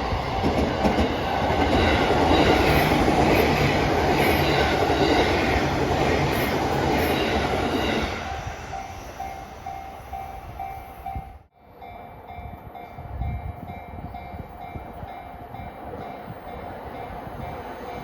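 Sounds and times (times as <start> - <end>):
crossing warning bell dinging: 0.0 - 18.0
train rumbling: 0.0 - 18.0.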